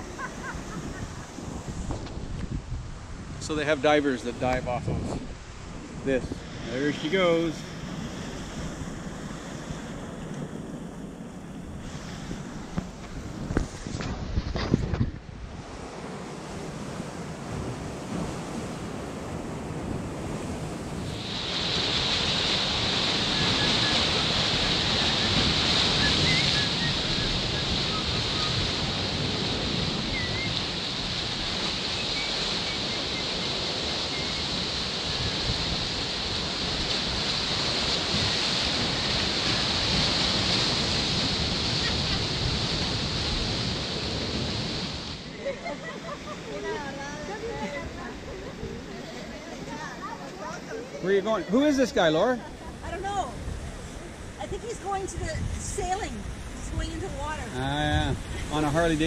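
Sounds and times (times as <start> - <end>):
wind buffeting microphone: 0.0 - 45.6, 46.3 - 51.0, 51.6 - 59.0
surf breaking over rocks: 3.3 - 59.0.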